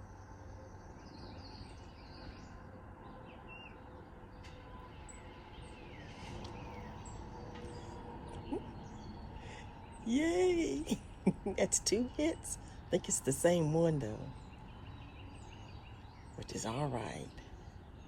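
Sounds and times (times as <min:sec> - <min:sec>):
low outdoor background hum: 0:00.0 - 0:18.0
small birds chirping: 0:00.0 - 0:18.0.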